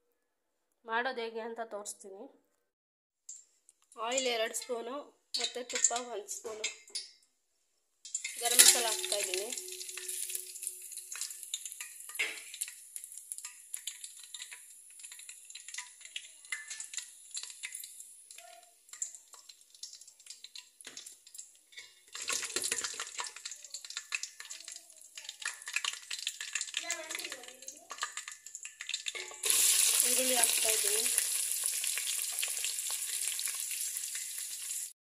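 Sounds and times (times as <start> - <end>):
spices sizzling in hot oil: 5.4 - 7.2, 8.1 - 35.0.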